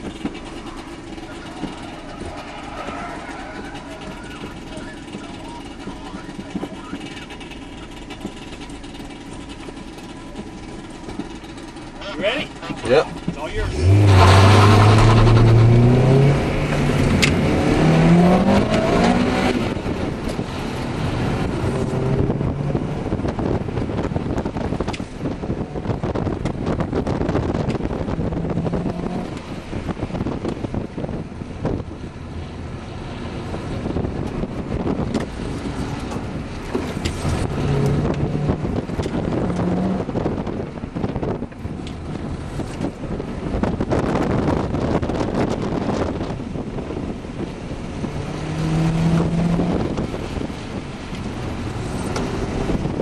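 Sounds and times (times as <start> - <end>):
car engine revving: 0.0 - 53.0
road and wind noise: 0.0 - 53.0.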